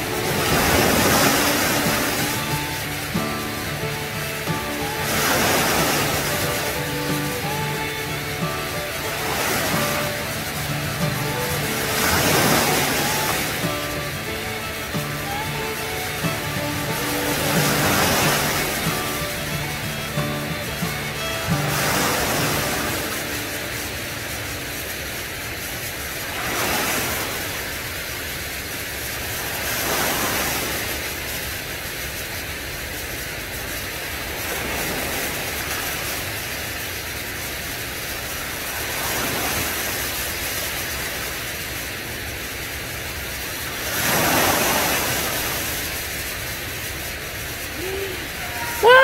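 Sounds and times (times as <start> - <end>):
small waves breaking: 0.0 - 49.0.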